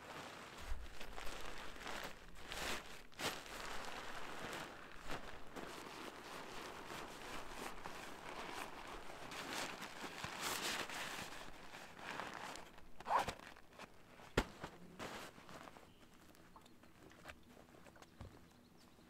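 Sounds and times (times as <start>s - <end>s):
nylon fabric rustling: 0.0s - 18.0s.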